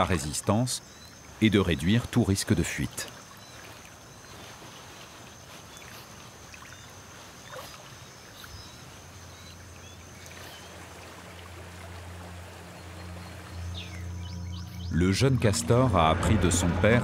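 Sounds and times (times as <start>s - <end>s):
running river water: 0.0s - 17.0s.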